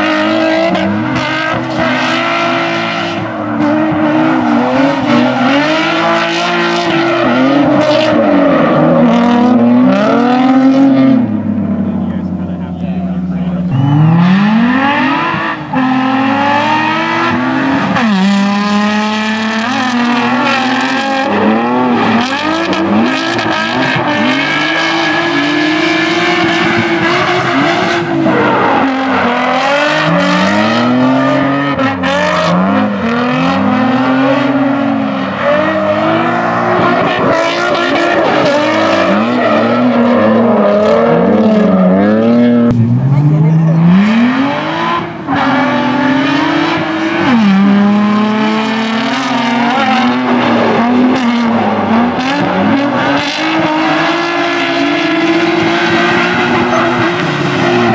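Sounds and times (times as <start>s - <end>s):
car engines revving: 0.0s - 57.9s.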